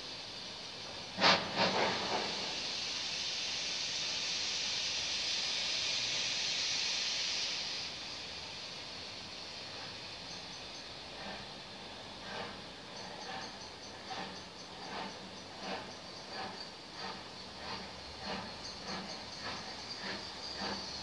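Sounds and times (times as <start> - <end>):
hiss of escaping steam: 0.0 - 21.0
steam bursts: 0.0 - 21.0.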